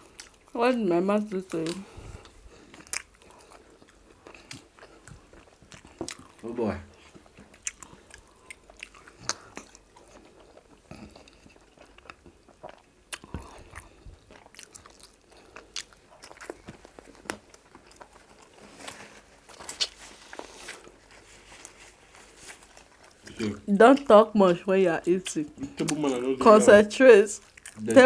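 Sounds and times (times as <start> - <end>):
people chewing food: 0.0 - 28.0.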